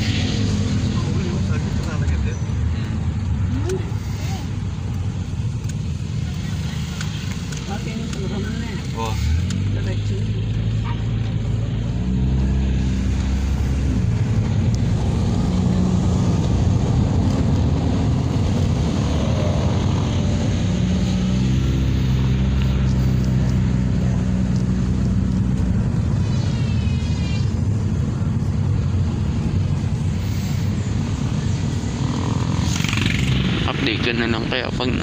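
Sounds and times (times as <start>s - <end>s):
car engine hum: 0.0s - 35.0s
tyres and wind rushing: 0.0s - 35.0s.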